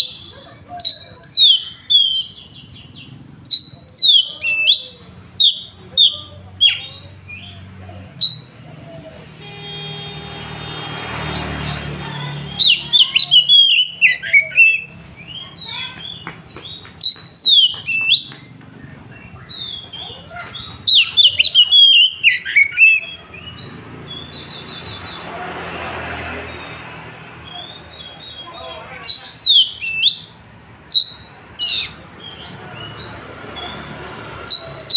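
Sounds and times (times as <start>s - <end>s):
bird singing whistled notes: 0.0s - 7.5s, 8.2s - 8.6s, 12.3s - 25.2s, 26.5s - 33.8s, 34.5s - 34.9s
low road hum: 0.0s - 34.9s.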